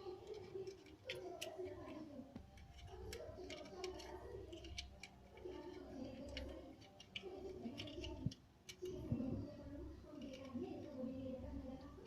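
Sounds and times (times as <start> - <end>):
light clicks and taps: 0.2 - 11.1.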